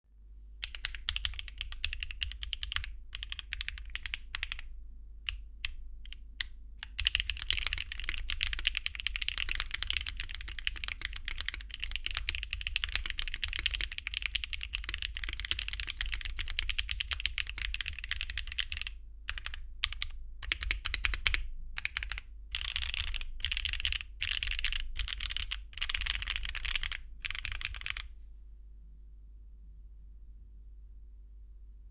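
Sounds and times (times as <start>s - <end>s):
mechanical keyboard typing: 0.6s - 4.7s, 5.3s - 28.1s.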